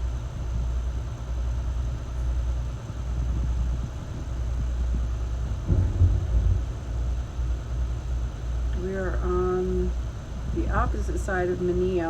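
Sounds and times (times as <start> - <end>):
boat engines rumbling: 0.0 - 12.0.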